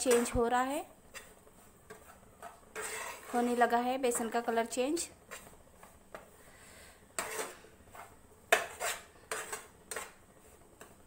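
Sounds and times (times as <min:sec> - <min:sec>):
spatula scraping a frying pan: 0:01.0 - 0:04.5, 0:05.1 - 0:11.0.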